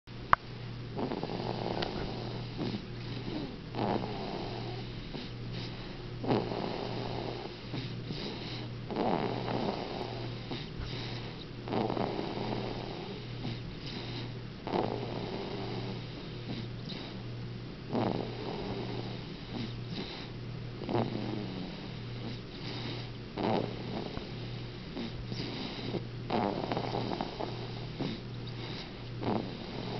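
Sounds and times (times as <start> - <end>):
steady low hum: 0.1 - 29.9
snoring: 0.9 - 17.2, 17.9 - 29.9.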